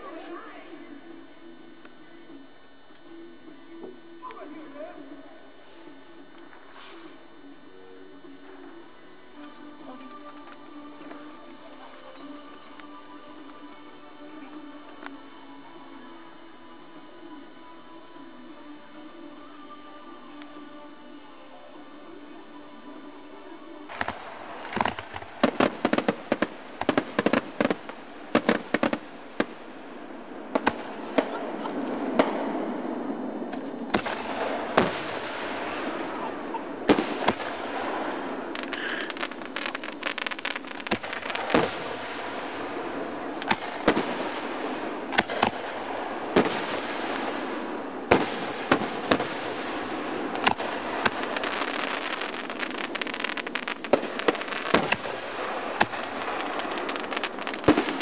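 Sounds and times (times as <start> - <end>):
continuous noise: 0.0 - 58.0
fireworks bursting: 0.0 - 58.0.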